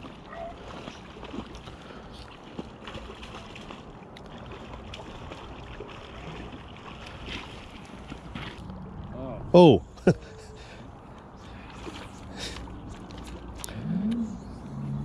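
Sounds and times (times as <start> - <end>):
shallow river water running: 0.0 - 15.0.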